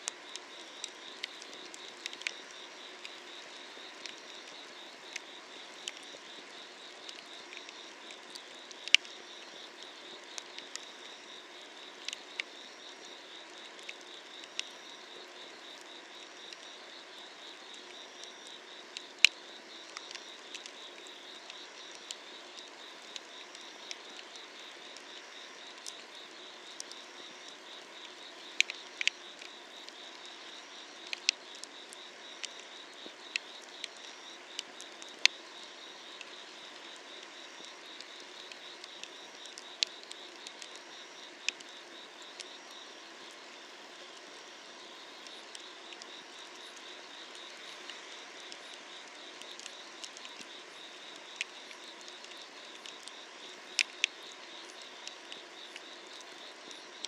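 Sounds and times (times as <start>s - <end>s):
firewood crackling and popping: 0.0s - 43.4s, 45.2s - 57.0s
night insects trilling: 0.0s - 57.0s.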